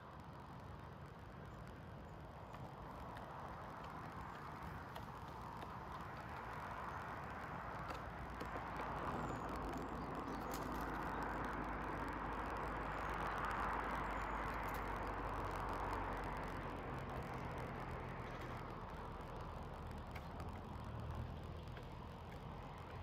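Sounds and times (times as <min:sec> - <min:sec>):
distant vehicle passing: 0:02.5 - 0:23.0.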